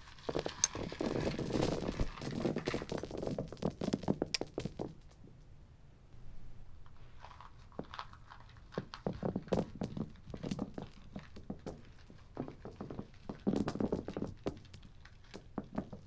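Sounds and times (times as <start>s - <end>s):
coins dropping onto carpet: 0.2s - 5.3s, 7.2s - 16.0s.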